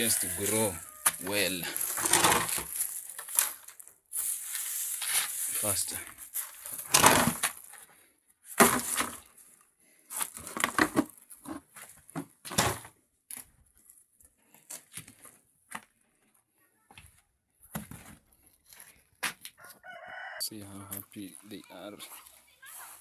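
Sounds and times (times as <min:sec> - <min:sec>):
rustling and scraping of objects: 0:00.0 - 0:19.8, 0:20.9 - 0:23.0.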